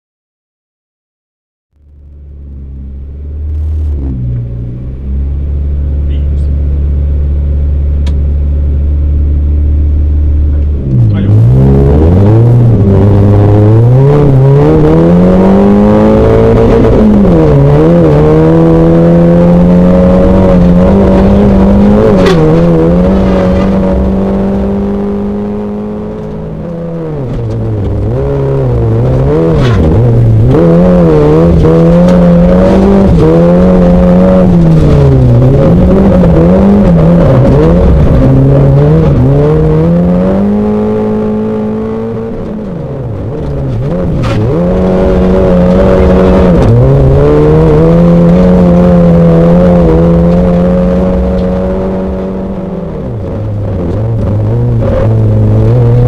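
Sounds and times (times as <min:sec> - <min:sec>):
rally car engine at full throttle: 0:01.8 - 0:56.0.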